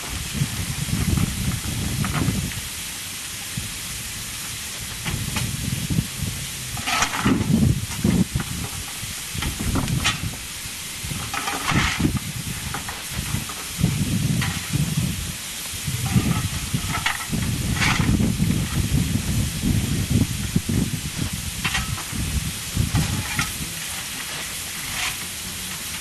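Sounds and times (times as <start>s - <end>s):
low rumbles: 0.0s - 25.7s
steam locomotive hissing: 0.0s - 26.0s.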